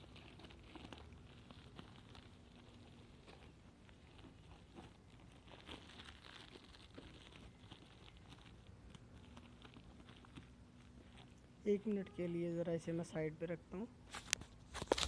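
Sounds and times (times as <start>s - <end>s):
plastic mailer bag crinkling: 0.0s - 12.0s, 14.2s - 15.0s.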